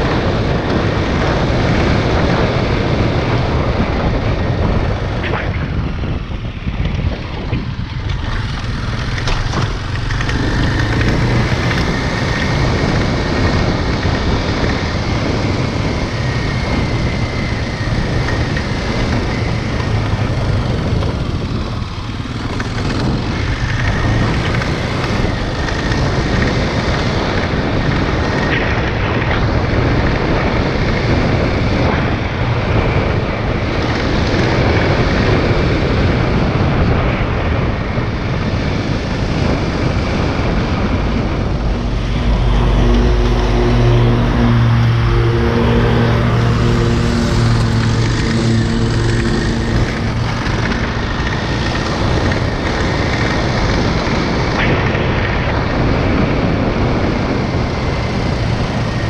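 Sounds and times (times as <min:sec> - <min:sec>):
motorcycle engine running: 0:00.0 - 0:59.0
wind noise on helmet: 0:00.0 - 0:59.0.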